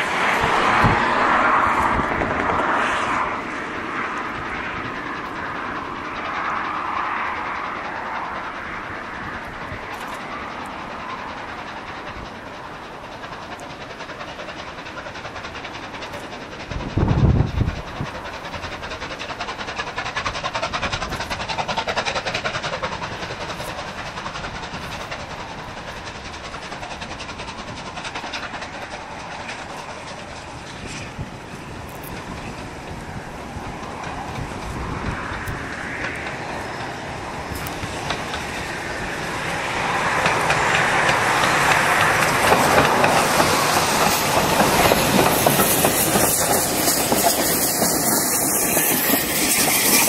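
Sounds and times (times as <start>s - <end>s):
coaches clattering over rails: 0.0s - 50.0s
steam train passing: 0.0s - 50.0s.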